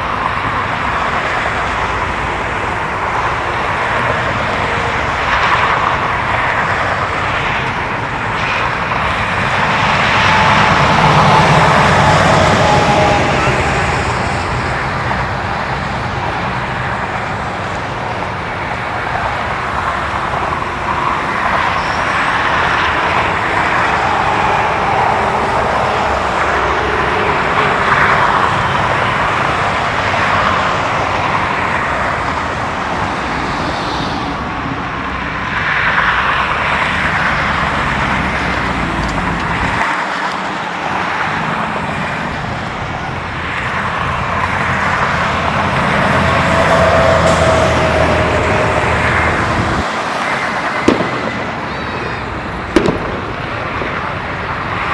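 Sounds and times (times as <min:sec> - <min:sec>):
road traffic noise: 0:00.0 - 0:54.9.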